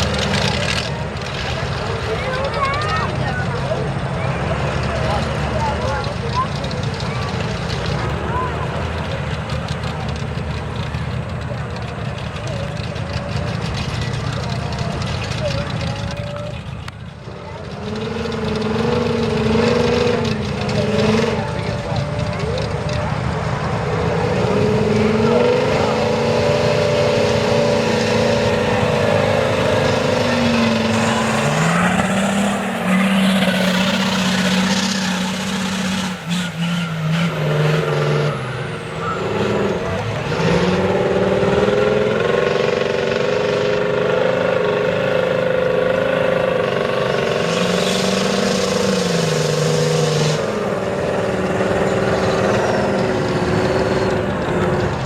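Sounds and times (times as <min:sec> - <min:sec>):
big truck engine running: 0:00.0 - 0:55.0.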